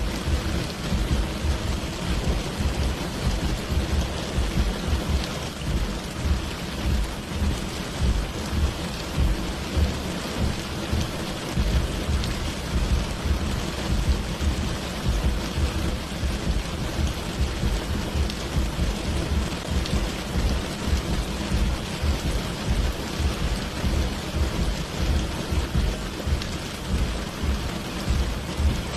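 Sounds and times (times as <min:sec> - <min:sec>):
heavy rain pouring: 0:00.0 - 0:28.9
low rumble: 0:00.0 - 0:28.9.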